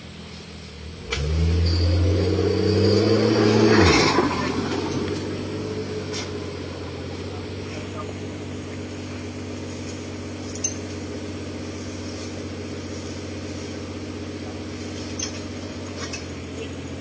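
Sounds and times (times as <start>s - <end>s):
engine idling: 2.9s - 17.0s.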